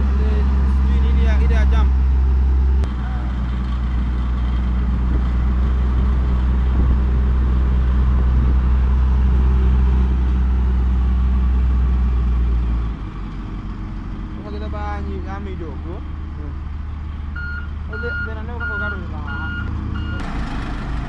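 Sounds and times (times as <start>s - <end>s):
road roller diesel engine: 0.0s - 21.0s.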